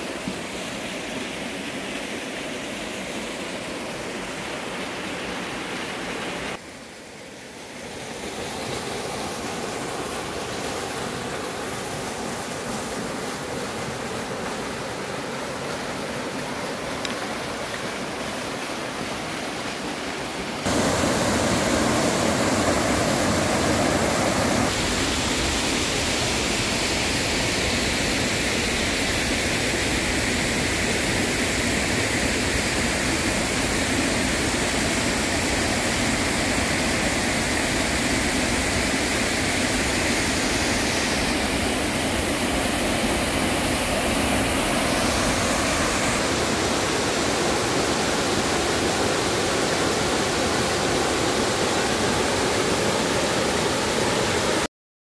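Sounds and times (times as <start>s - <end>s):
stream rushing over rocks: 0.0s - 54.7s.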